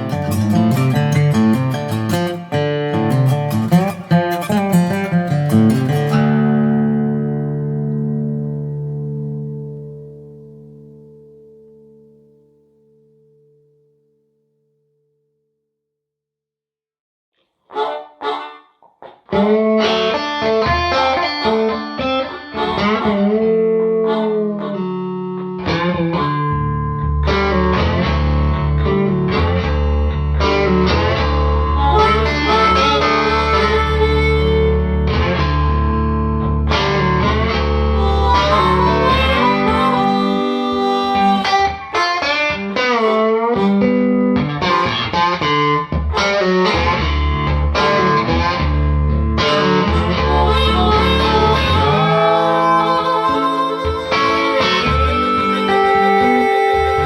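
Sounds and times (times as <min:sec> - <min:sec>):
blues band with guitar: 0:00.0 - 0:13.6, 0:17.8 - 0:57.0.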